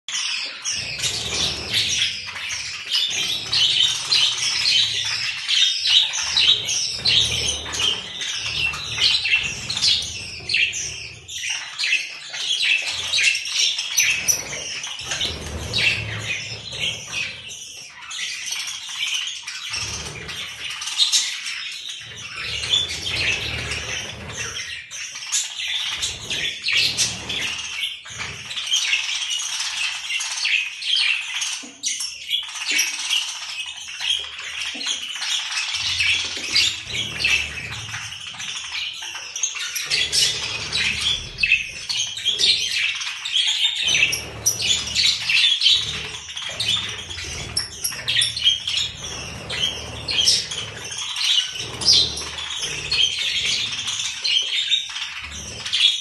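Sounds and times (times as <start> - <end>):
budgerigars chattering: 0.1 - 56.0.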